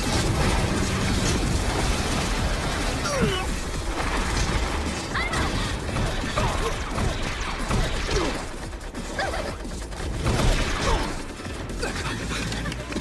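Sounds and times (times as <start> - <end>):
mechanical clatter: 0.0 - 13.0.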